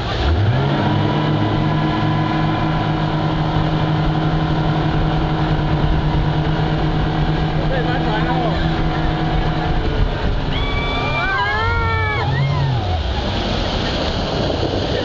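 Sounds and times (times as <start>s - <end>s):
rushing water noise: 0.0s - 15.0s
speedboat engine: 0.0s - 15.0s.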